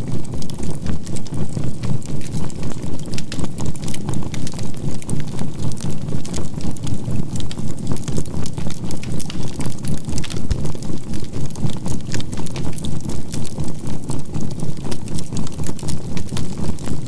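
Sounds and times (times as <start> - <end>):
charcoal campfire crackling: 0.0 - 17.0.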